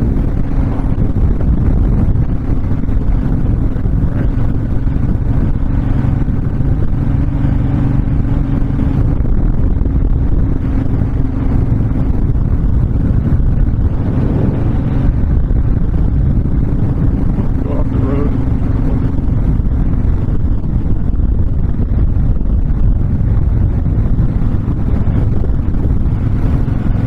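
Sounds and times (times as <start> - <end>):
motorcycle engine cruising: 0.0 - 27.0
wind noise on microphone: 0.0 - 27.0.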